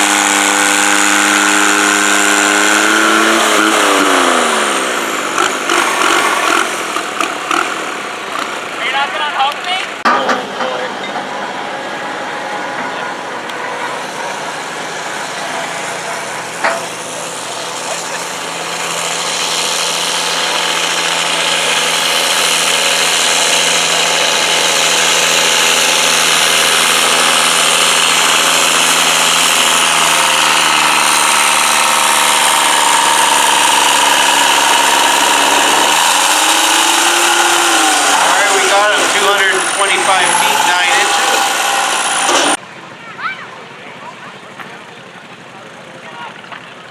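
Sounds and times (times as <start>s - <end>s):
tractor engine running under load: 0.0s - 43.0s.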